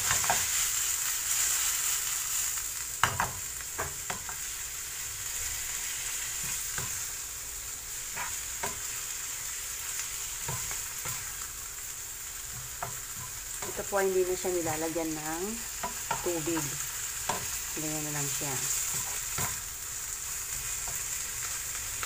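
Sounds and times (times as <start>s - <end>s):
chicken sizzling in frying pan: 0.0s - 22.0s.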